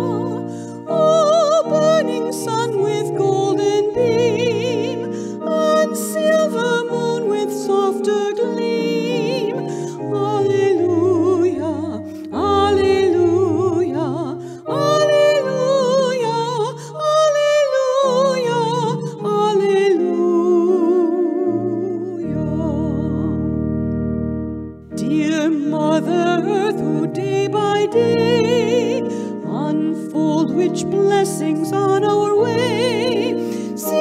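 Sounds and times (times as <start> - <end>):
sustained accompanying chords: 0.0 - 17.0, 18.8 - 34.0
solo voice singing a hymn: 0.0 - 23.5, 24.9 - 34.0.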